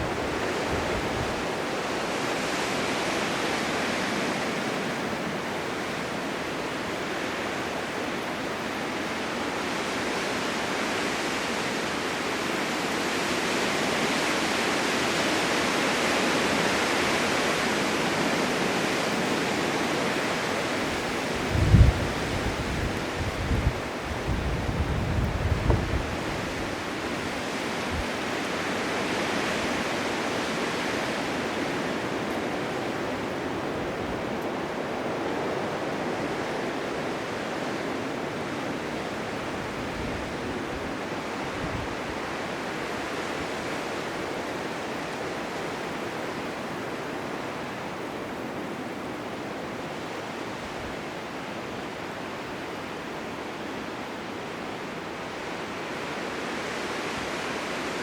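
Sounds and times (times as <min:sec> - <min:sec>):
blizzard wind rushing: 0:00.0 - 0:58.0.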